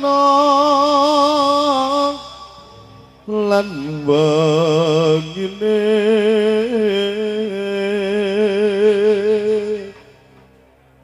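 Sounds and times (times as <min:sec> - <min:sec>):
person singing with vibrato: 0:00.0 - 0:10.3.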